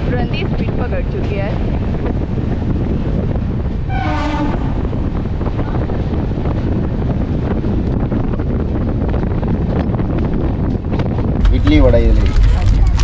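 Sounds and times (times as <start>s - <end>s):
train running rumble: 0.0s - 13.0s
wind buffeting microphone: 0.0s - 13.0s.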